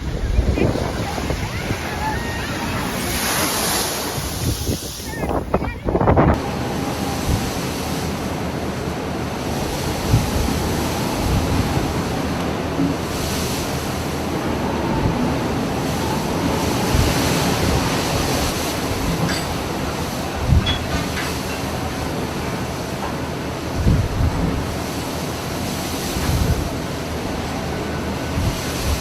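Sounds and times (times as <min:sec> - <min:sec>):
sea waves crashing: 0:00.0 - 0:29.0
wind buffeting microphone: 0:00.0 - 0:29.0.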